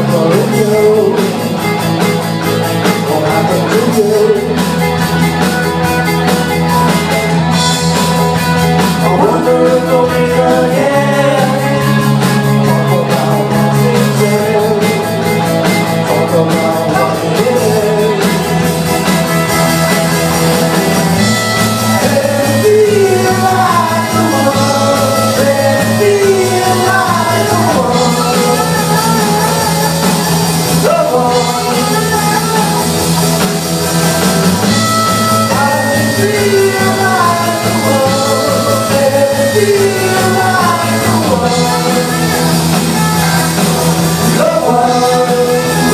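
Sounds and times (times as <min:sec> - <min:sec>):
person singing: 0:00.0 - 0:45.9
rock band playing: 0:00.0 - 0:45.9.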